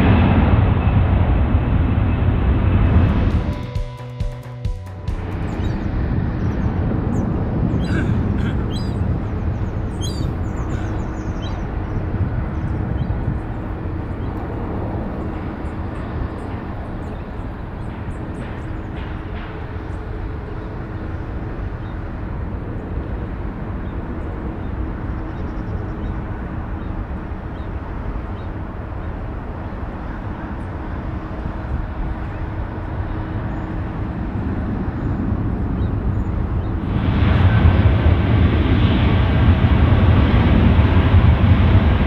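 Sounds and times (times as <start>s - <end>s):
airliner engines rumbling: 0.0s - 42.0s.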